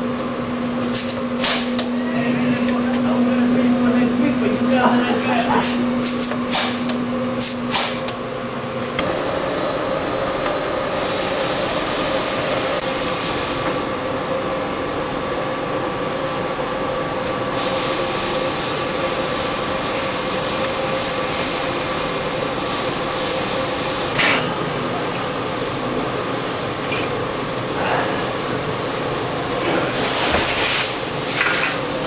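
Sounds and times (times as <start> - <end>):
factory machinery hum: 0.0 - 32.0.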